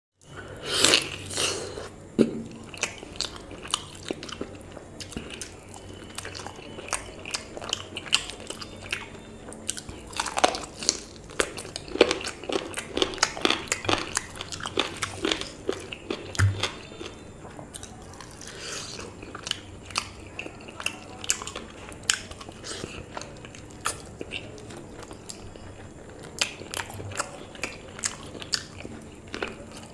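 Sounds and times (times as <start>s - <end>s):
open-mouth chewing: 0.6s - 29.9s.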